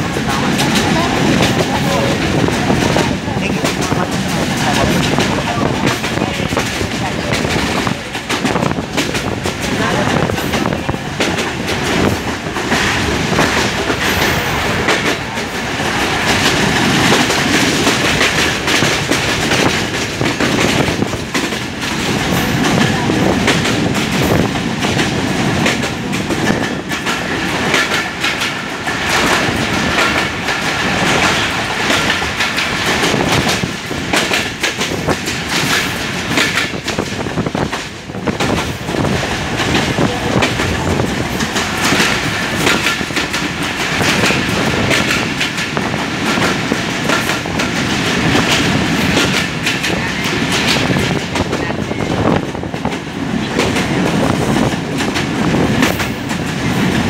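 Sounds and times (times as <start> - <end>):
train wheels rumbling and clacking: 0.0 - 57.0.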